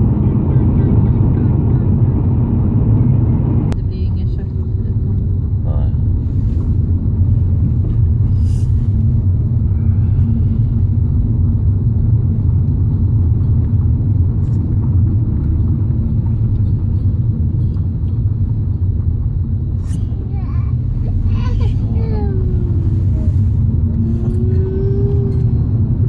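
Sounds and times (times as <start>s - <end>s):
car engine and tyre noise: 0.0s - 26.0s.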